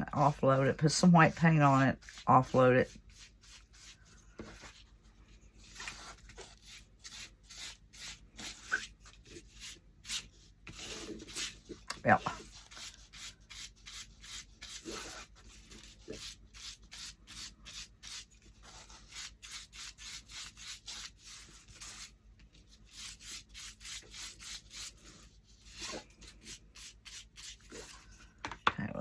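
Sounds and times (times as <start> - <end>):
brush bristles scrubbing: 0.0 - 4.9, 5.6 - 28.2.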